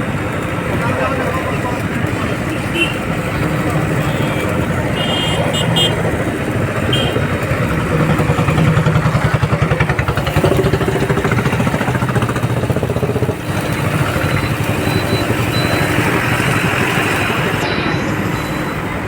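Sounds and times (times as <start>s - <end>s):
engine running with fast throb: 0.0s - 19.0s.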